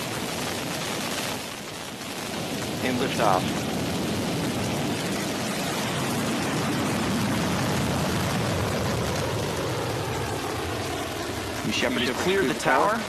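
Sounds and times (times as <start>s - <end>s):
rocket engine roaring: 0.0s - 13.0s.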